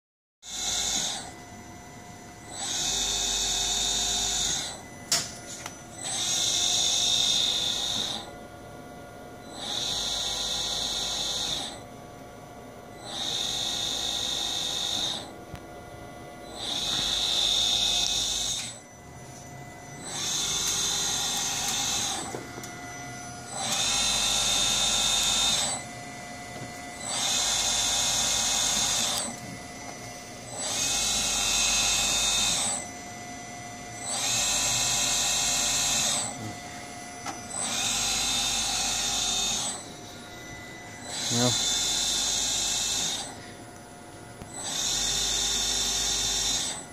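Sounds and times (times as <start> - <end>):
servo motor high whine: 0.4 - 8.5, 9.3 - 12.0, 12.9 - 46.9.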